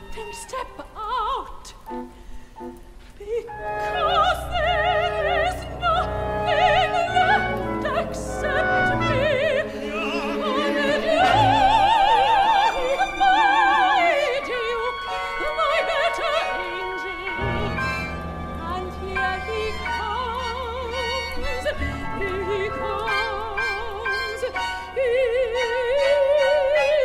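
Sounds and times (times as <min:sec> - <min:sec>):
operatic female singing: 0:00.0 - 0:01.8, 0:03.2 - 0:27.0
instrumental accompaniment: 0:01.8 - 0:27.0.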